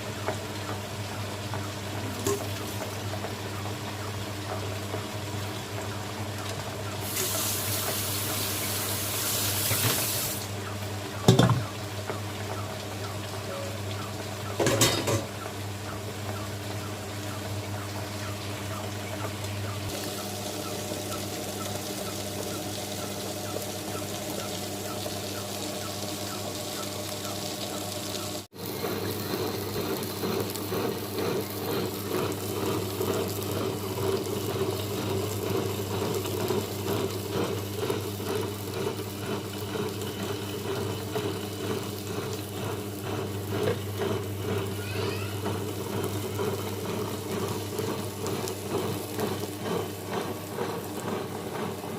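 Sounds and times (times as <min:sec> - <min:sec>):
wet grinder motor humming: 0:00.0 - 0:51.9.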